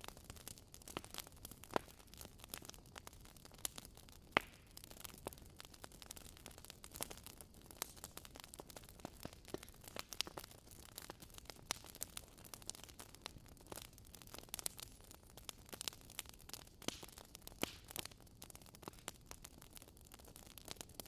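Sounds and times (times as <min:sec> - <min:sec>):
wood fire popping and snapping: 0:00.0 - 0:21.0.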